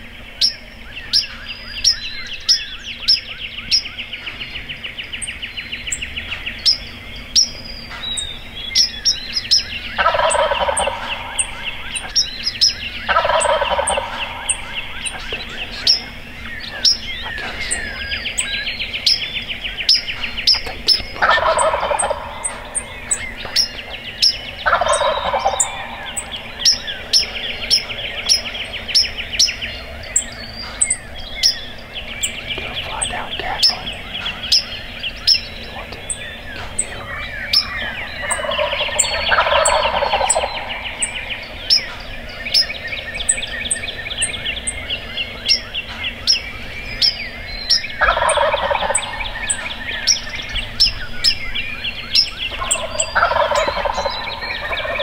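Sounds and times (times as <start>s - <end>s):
songbird trilling: 0.0s - 55.0s
turkey gobbling: 6.2s - 46.4s, 47.2s - 55.0s.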